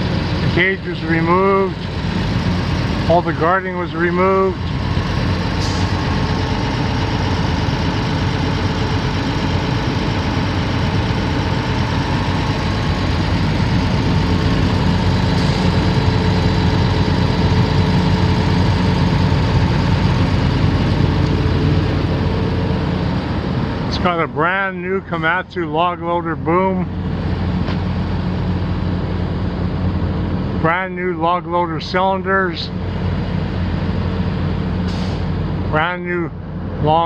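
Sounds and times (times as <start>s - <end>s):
excavator diesel engine idling: 0.0s - 37.0s.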